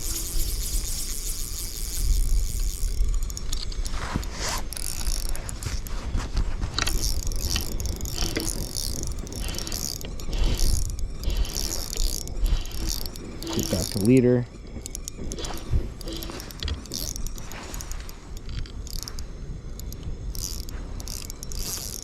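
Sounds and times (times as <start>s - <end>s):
fishing reel clicking and ratcheting: 0.0s - 22.0s.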